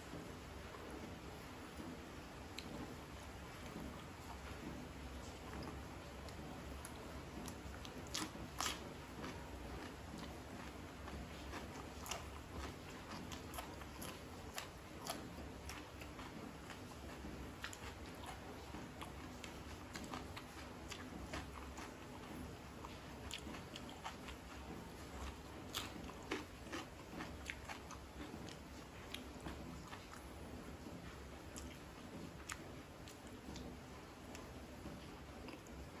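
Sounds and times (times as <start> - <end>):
person chewing food: 0.1 - 36.0.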